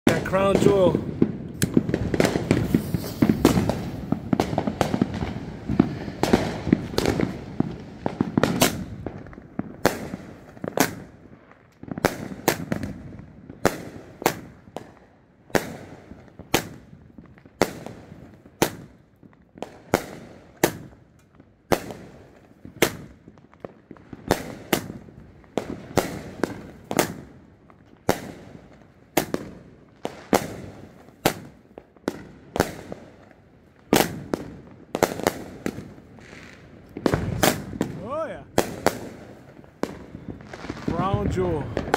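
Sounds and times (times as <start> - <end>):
firework bangs and bursts: 0.1 - 41.9.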